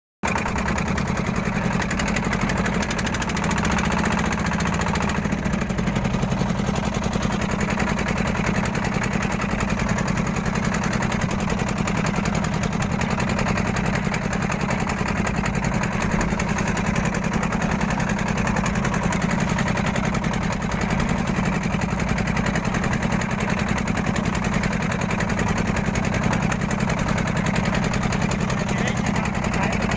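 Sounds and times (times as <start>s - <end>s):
small engine chugging: 0.2s - 29.9s.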